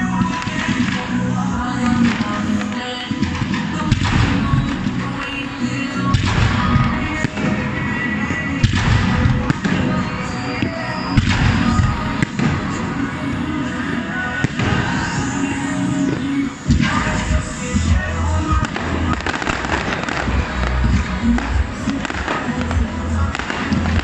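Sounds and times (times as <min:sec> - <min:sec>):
fireworks bursting: 0:00.0 - 0:24.0
loud music: 0:00.0 - 0:24.0.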